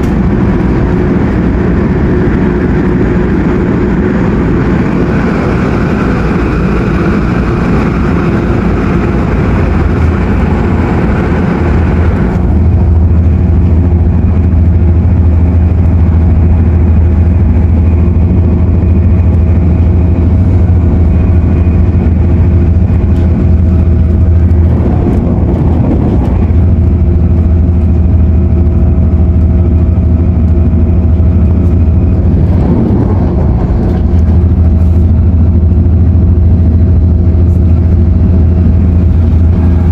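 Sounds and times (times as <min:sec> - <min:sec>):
deep train hum: 0:00.0 - 0:39.9.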